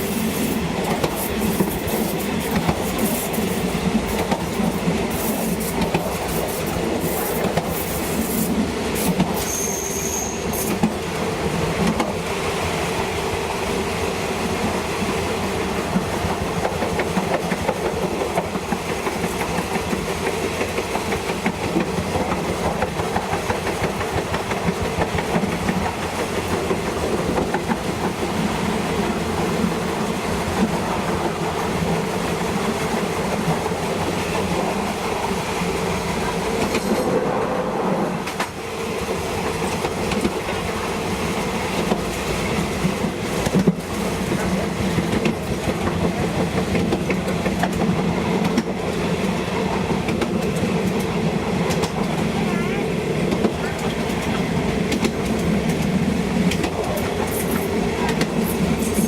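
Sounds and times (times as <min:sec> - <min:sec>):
train engine drone: 0:00.0 - 0:59.0.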